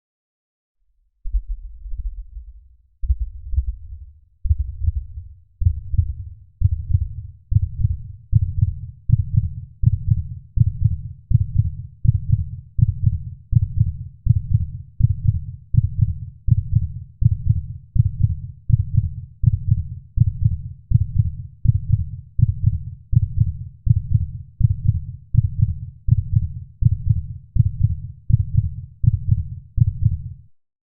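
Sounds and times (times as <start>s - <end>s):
heartbeat thumps: 1.2s - 30.3s.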